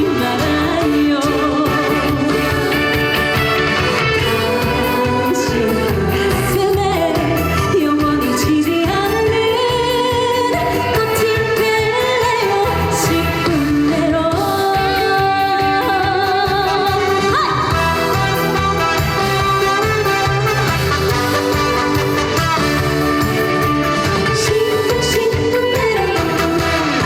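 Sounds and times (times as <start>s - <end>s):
woman singing with vibrato: 0.0s - 20.4s, 24.0s - 27.0s
instrumental accompaniment with beat: 0.0s - 27.0s.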